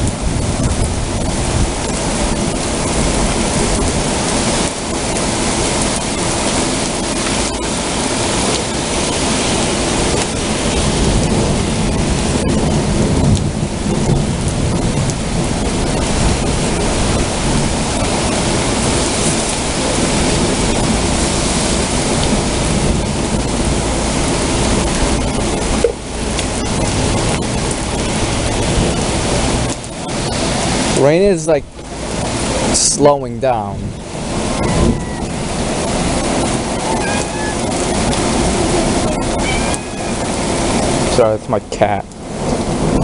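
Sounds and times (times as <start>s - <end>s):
low rumbling thunder: 0.0s - 33.0s, 33.7s - 43.0s
heavy rain pouring: 0.0s - 43.0s.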